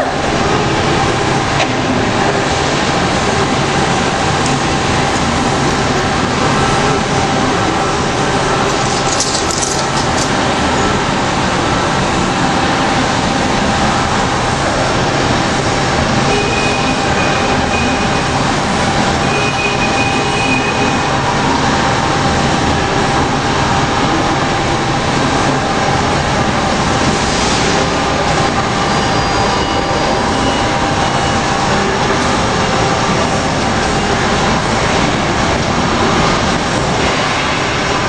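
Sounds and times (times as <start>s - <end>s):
industrial machinery whining: 0.0s - 38.0s.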